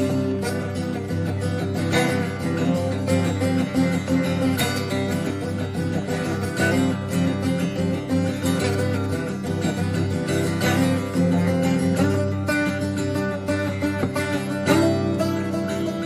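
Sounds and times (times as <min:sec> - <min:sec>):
plucked acoustic guitar music: 0:00.0 - 0:16.0.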